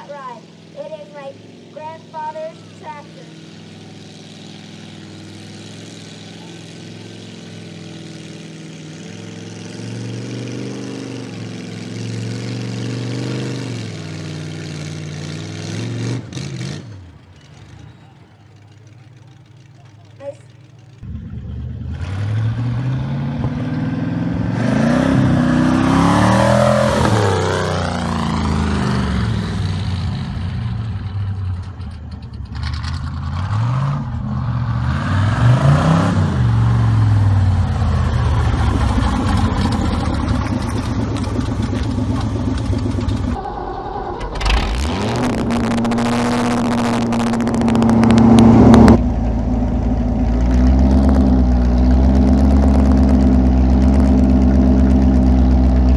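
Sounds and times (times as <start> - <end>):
tractor engine revving: 0.0 - 55.9.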